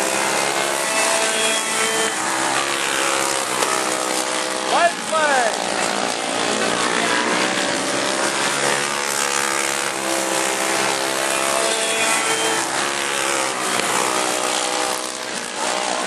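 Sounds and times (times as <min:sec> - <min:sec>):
go-kart engines racing: 0:00.0 - 0:16.0.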